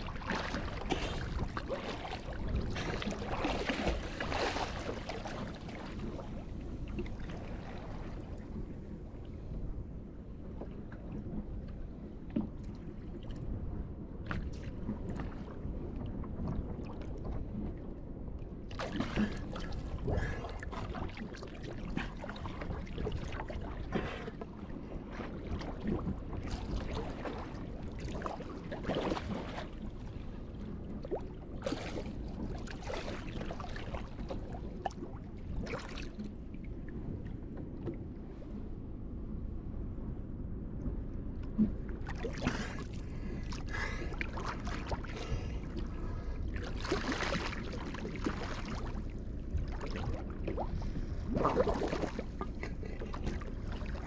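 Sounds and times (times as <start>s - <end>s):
irregular water splashes: 0.0s - 9.6s, 10.4s - 38.7s, 41.4s - 54.0s
steady low rumble: 0.0s - 54.0s
water sloshing against boat hull: 0.0s - 54.0s.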